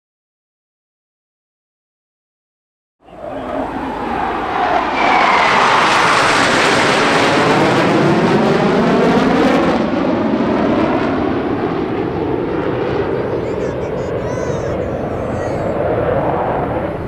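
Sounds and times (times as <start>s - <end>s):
jets passing overhead: 3.0s - 17.0s.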